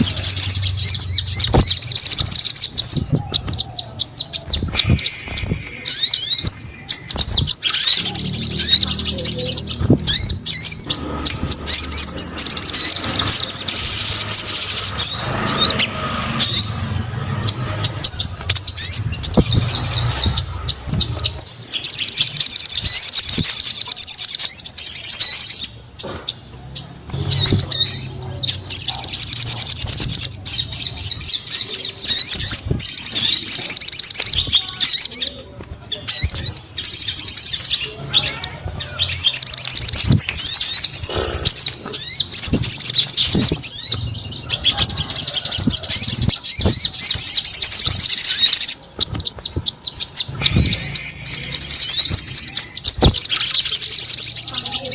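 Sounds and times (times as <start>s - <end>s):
songbird chattering trills: 0.0s - 54.9s.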